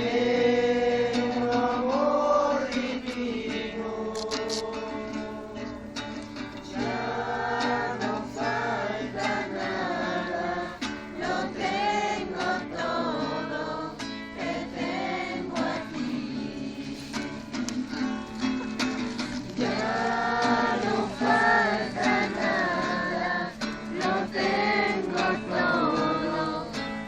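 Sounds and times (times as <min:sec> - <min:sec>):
acoustic guitar strumming: 0:00.0 - 0:27.0
group of voices singing: 0:00.0 - 0:27.0.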